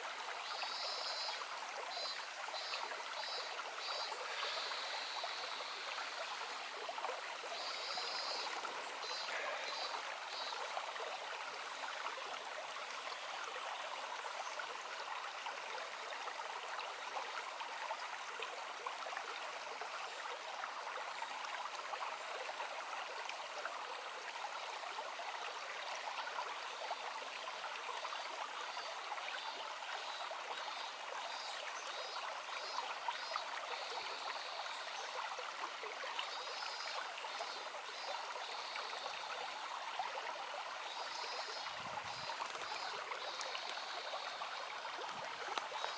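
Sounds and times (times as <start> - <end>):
stream babbling: 0.0 - 45.9.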